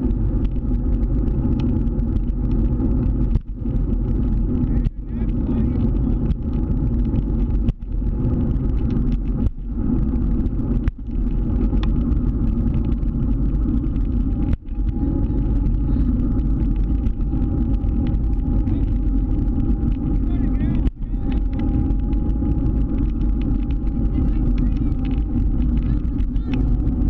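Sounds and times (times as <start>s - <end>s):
scooter rumbling: 0.0s - 27.0s.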